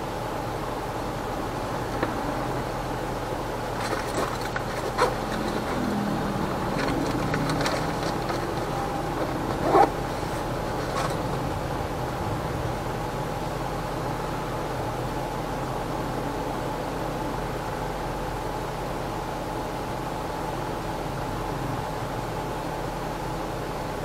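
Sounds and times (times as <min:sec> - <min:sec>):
city traffic noise: 0:00.0 - 0:24.0.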